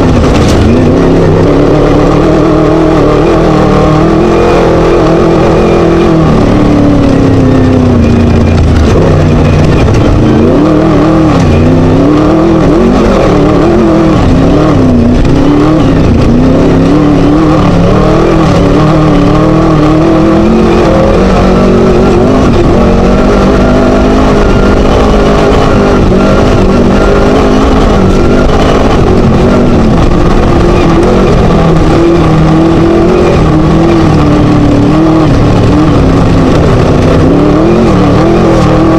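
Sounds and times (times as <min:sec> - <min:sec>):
race buggy engine revving: 0:00.0 - 0:38.9.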